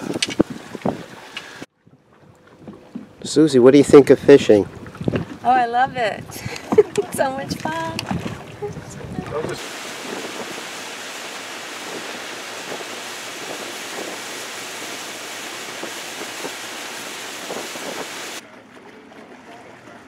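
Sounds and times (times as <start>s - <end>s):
wind buffeting microphone: 0.0s - 18.4s
water rushing past boat hull: 0.0s - 20.0s.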